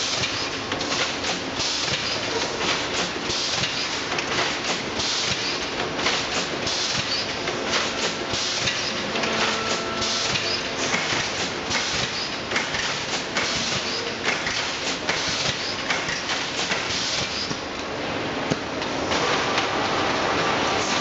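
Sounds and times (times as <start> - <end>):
machine clattering: 0.1 - 17.6.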